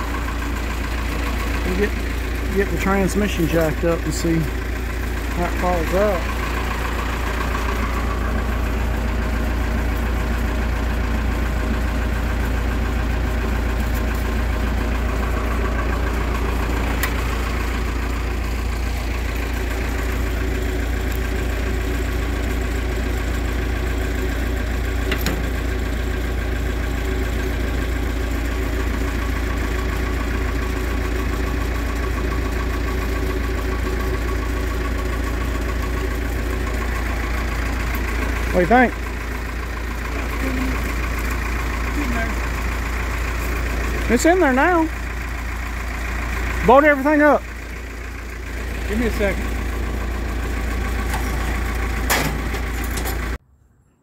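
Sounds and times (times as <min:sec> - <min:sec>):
engine idling: 0:00.0 - 0:53.4.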